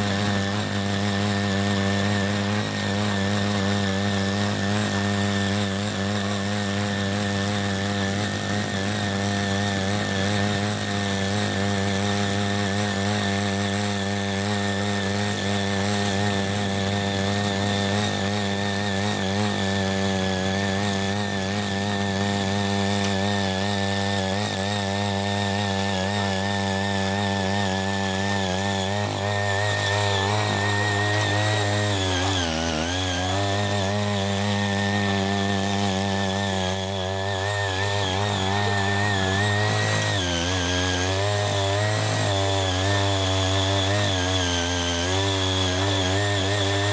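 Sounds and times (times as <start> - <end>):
tiller engine running under load: 0.0 - 46.9.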